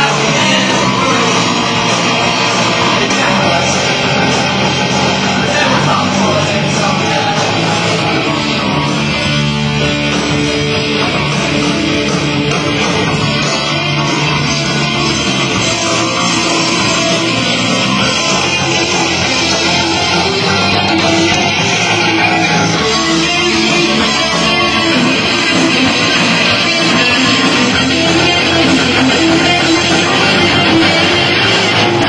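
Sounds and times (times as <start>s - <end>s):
electric guitars: 0.0s - 32.0s
rock band playing live: 0.0s - 32.0s.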